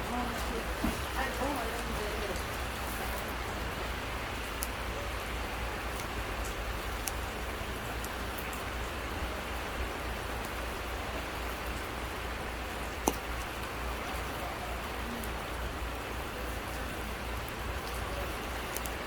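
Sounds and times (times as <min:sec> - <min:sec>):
firewood crackling: 0:00.0 - 0:19.0
steady rain falling: 0:00.0 - 0:19.0.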